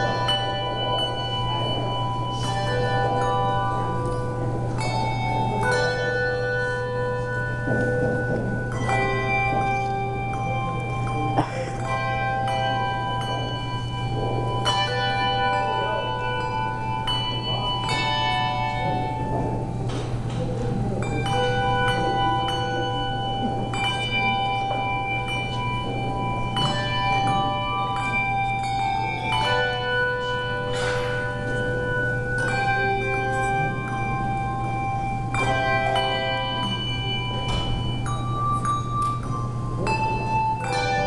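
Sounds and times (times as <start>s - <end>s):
handbells playing a tune: 0.0s - 41.0s.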